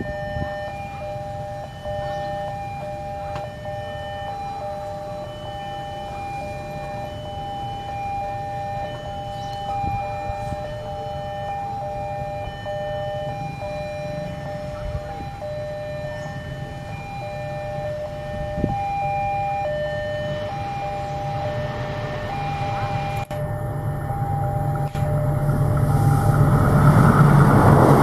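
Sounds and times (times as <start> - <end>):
diesel locomotive rumble: 0.0 - 28.0
two-tone level crossing alarm: 0.0 - 28.0.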